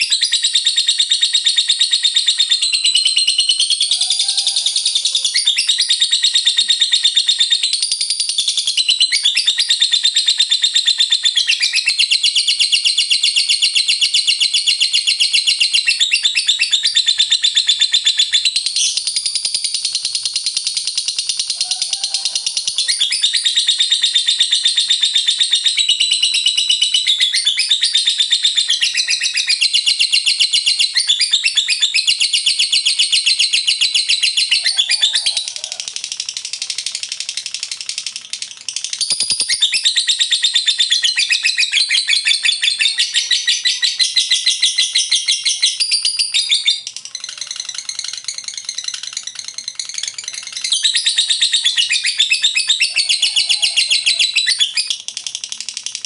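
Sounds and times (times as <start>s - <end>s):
bird chattering trill: 0.0s - 56.0s.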